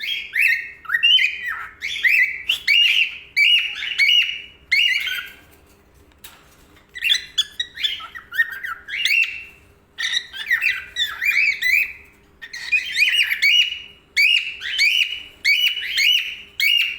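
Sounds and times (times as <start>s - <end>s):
cockatiel chirping and whistling: 0.0s - 5.4s, 6.9s - 16.9s.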